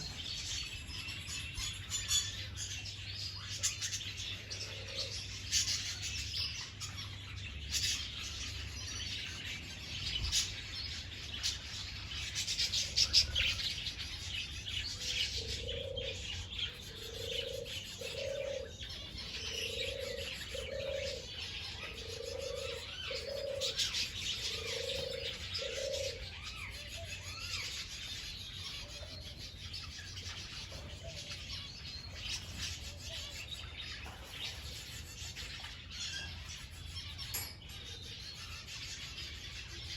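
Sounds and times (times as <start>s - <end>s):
dove cooing: 0.0s - 7.2s, 9.2s - 36.5s
small birds chirping: 0.0s - 39.9s.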